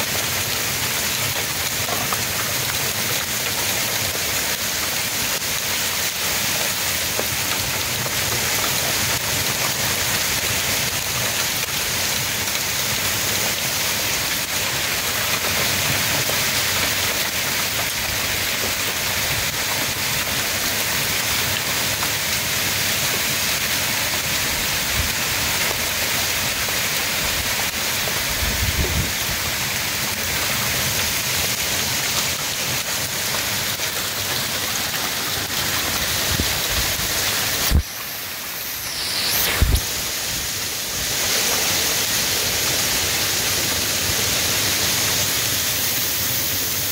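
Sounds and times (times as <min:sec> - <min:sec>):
heavy rain in windstorm: 0:00.0 - 0:46.9.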